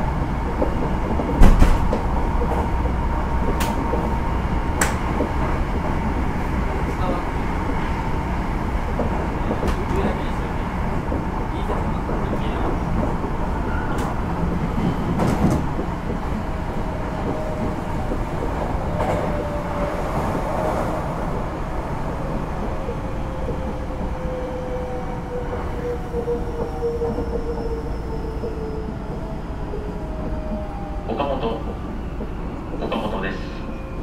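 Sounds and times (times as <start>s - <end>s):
wheel and rail rumble: 0.0s - 34.0s.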